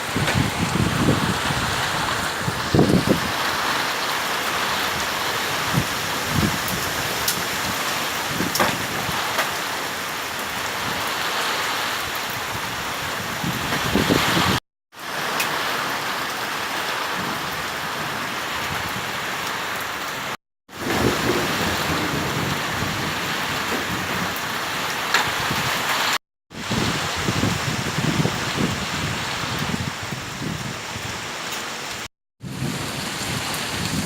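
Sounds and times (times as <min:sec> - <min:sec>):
heavy rain: 0:00.0 - 0:34.0
wind: 0:00.0 - 0:34.0.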